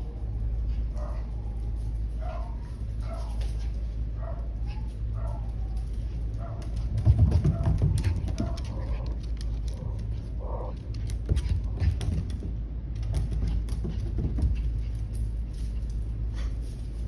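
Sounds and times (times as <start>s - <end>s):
paws clicking and scraping: 0.0s - 17.0s.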